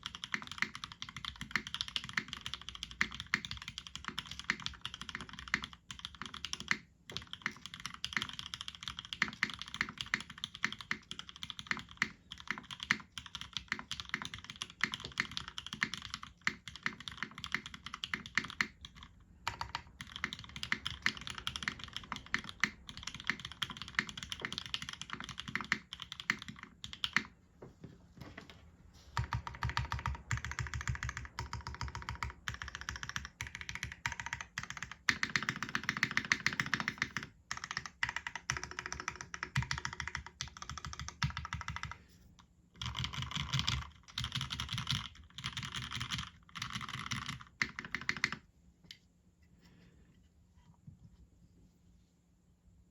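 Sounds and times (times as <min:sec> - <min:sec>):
mechanical keyboard typing: 0:00.0 - 0:27.4, 0:29.2 - 0:42.0, 0:42.8 - 0:48.4.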